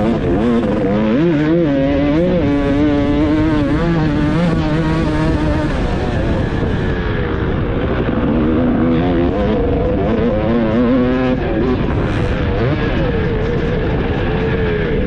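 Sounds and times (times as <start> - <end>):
motocross bike engine revving: 0.0 - 15.0
wind noise on microphone: 0.0 - 15.0.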